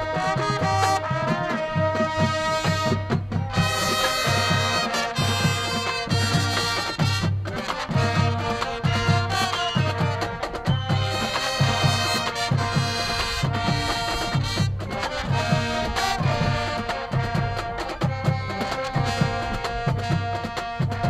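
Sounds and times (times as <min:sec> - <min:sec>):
wind instruments holding chords: 0:00.0 - 0:21.0.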